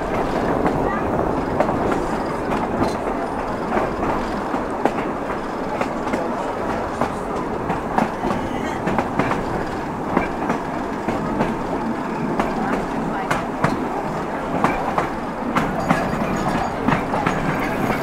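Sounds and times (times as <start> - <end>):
tram wheels rumbling on rail: 0.0 - 18.0
wheels clicking over rail joints: 0.0 - 18.0.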